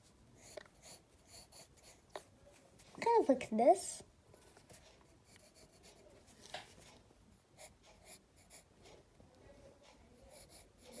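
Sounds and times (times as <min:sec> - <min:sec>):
pencil strokes on paper: 0:00.0 - 0:03.4, 0:04.4 - 0:09.0, 0:09.8 - 0:11.0.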